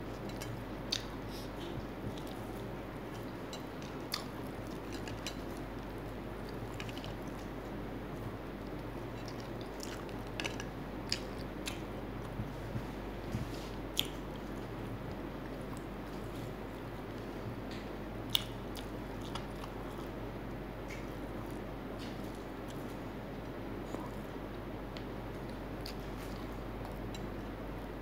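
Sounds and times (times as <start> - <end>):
person chewing with wet clicks: 0.0 - 12.9, 13.5 - 28.0.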